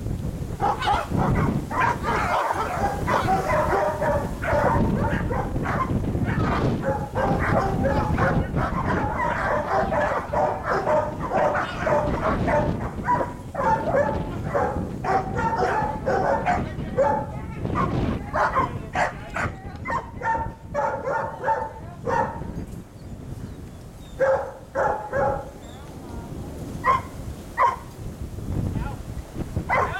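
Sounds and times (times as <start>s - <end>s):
dogs barking rapidly: 0.6s - 22.6s, 24.1s - 25.7s, 26.8s - 27.9s, 29.6s - 29.9s.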